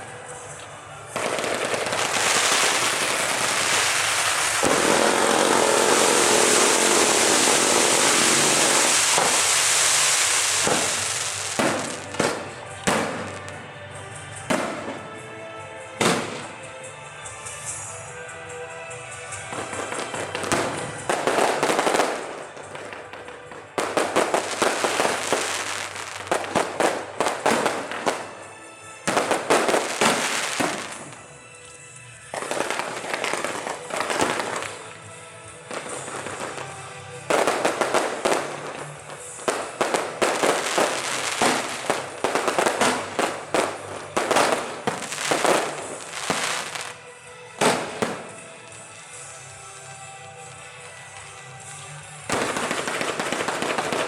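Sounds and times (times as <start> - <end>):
background music: 0.0 - 54.0
fireworks crackling: 0.0 - 54.0.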